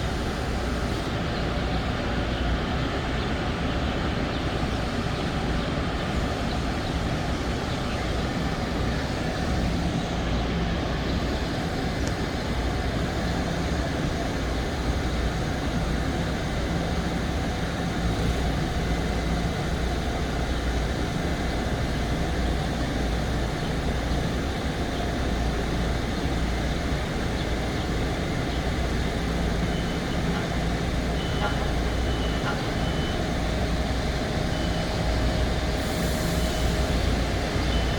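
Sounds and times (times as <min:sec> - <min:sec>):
electric train rumble and hiss: 0:00.0 - 0:37.9.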